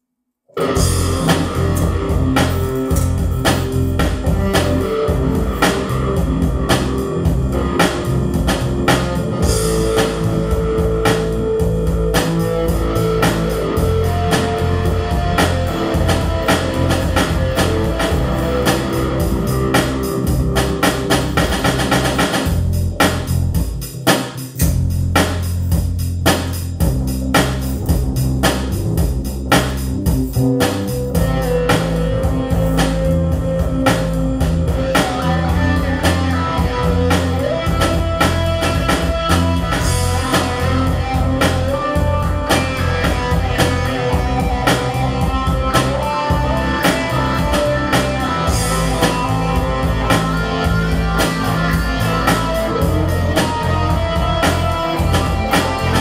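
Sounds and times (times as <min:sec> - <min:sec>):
rock music with guitar and drums: 0:00.6 - 0:56.0.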